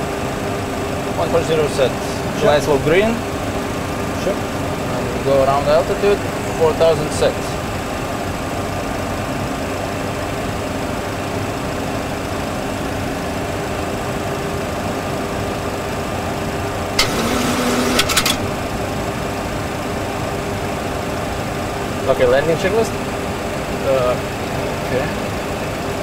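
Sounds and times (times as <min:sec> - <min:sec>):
simulated engine and airflow noise: 0:00.0 - 0:26.0.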